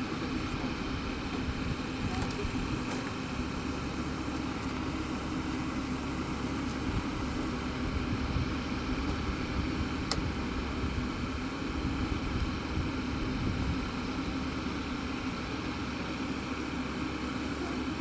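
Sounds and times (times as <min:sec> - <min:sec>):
motor rumbling and humming: 0:00.0 - 0:18.0.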